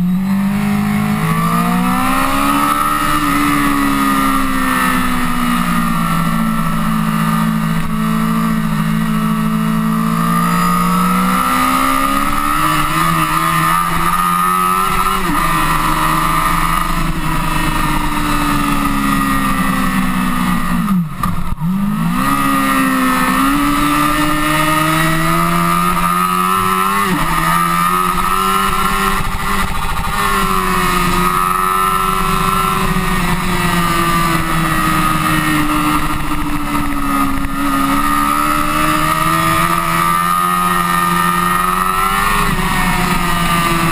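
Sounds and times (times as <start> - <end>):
motorcycle engine at high speed: 0.0 - 43.9.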